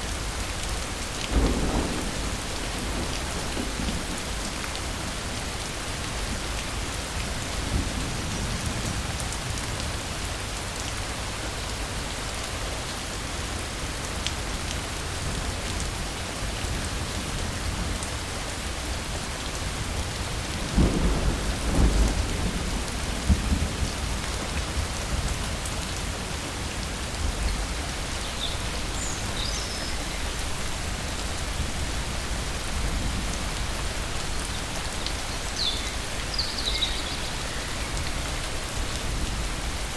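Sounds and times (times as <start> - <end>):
heavy rain hissing: 0.0 - 13.9, 15.0 - 39.9.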